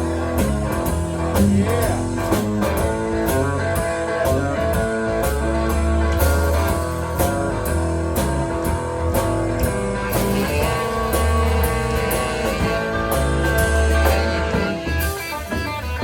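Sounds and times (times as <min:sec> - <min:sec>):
blues band playing: 0:00.0 - 0:16.0
drum kit cymbal beat: 0:00.0 - 0:16.0.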